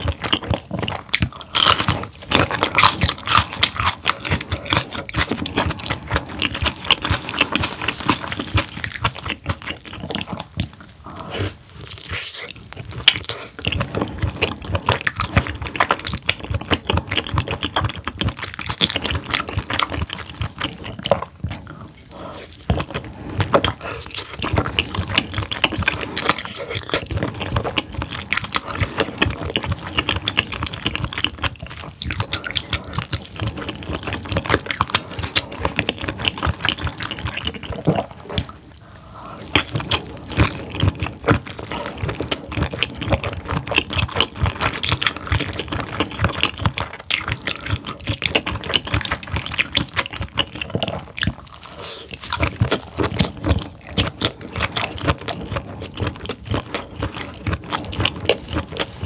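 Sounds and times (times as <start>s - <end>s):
chewing clicks and smacks: 0.0s - 10.9s, 11.8s - 22.0s, 22.6s - 59.0s.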